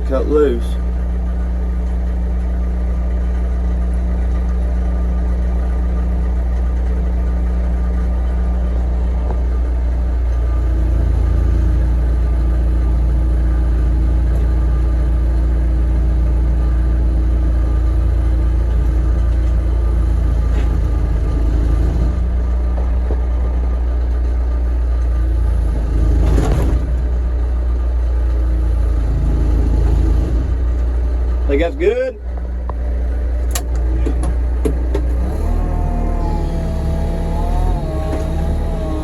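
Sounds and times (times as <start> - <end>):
machine engine running and revving: 0.0 - 31.7, 32.7 - 39.0.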